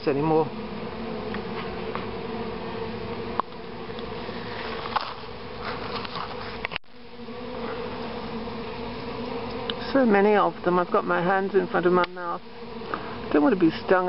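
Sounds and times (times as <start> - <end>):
honey bees buzzing: 0.0 - 14.0.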